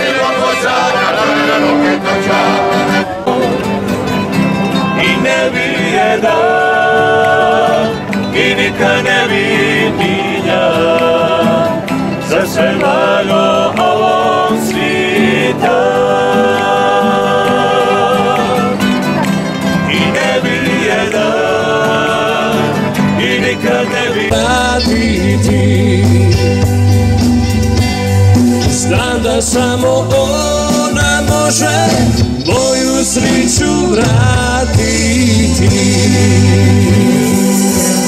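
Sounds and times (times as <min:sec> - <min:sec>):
group of men singing: 0:00.0 - 0:04.0, 0:04.8 - 0:38.0
strummed acoustic guitar: 0:00.0 - 0:38.0
plucked strings: 0:02.0 - 0:36.9.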